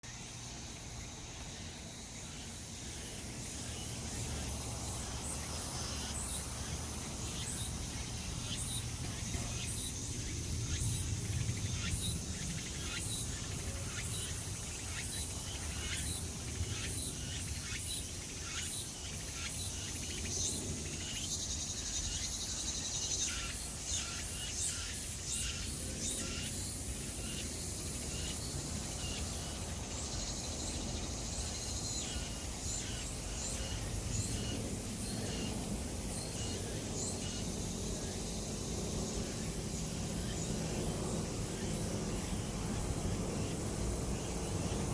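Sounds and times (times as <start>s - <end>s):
cicadas buzzing: 0.0s - 44.9s
sharp cicada calls: 0.0s - 44.9s.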